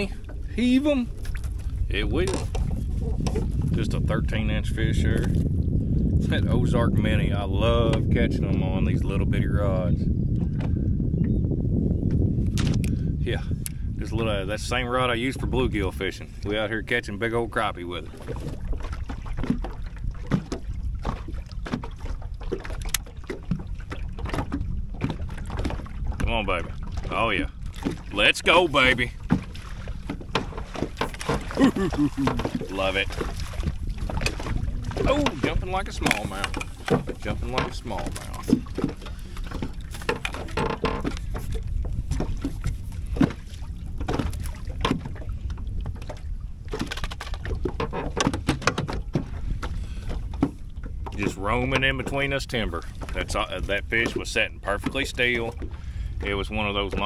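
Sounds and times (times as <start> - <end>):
waves slapping boat hull: 0.0 - 11.1, 12.0 - 57.0
wind rumbling on microphone: 0.0 - 57.0.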